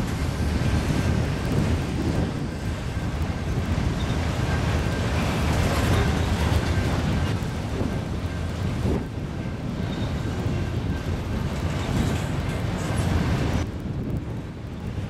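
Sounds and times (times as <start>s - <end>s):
freight train wheels rumbling: 0.0s - 15.0s
wind buffeting microphone: 0.0s - 15.0s.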